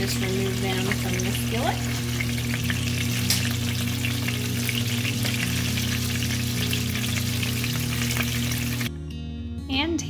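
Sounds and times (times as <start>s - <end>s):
meat sizzling in a skillet: 0.0s - 8.9s.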